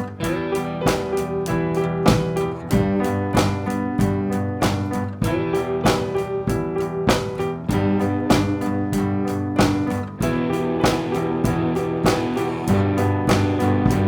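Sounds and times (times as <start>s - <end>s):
drum beat: 0.0s - 14.0s
guitar chords: 0.0s - 14.0s.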